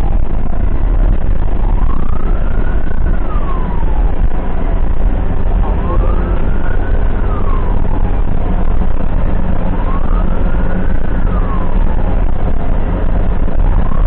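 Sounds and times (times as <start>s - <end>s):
ambulance siren wailing: 0.0s - 14.0s
engine and road rumble: 0.0s - 14.0s.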